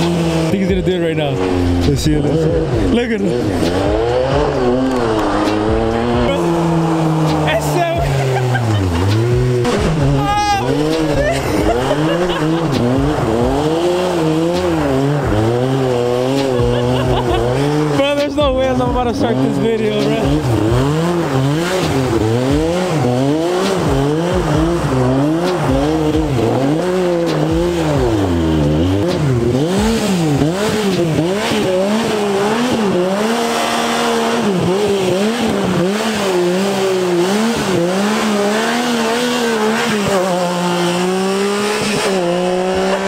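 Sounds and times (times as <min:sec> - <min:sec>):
engine revving: 0:00.0 - 0:43.0.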